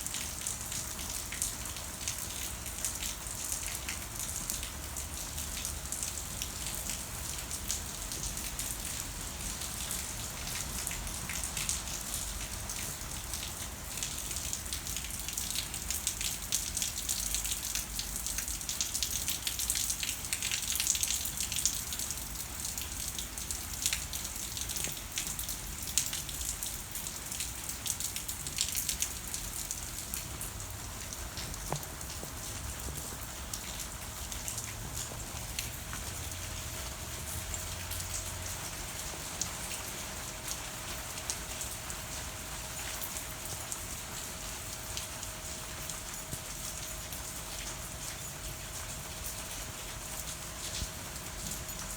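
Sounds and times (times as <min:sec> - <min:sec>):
raindrops pattering: 0:00.0 - 0:51.9
steady rain falling: 0:00.0 - 0:51.9.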